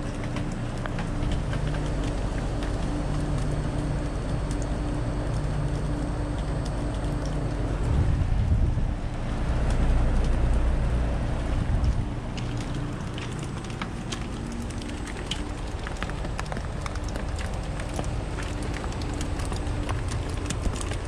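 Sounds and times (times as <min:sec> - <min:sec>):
raindrops ticking: 0:00.0 - 0:07.9, 0:09.0 - 0:21.0
compressor hum: 0:00.0 - 0:21.0
fan rushing: 0:00.0 - 0:21.0.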